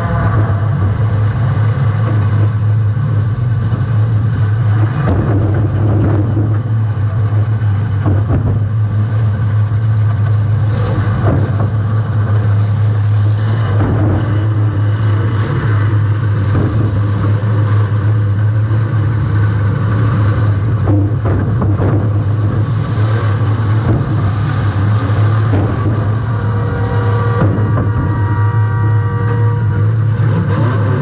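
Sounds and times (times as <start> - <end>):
car engine running hard: 0.0 - 31.0.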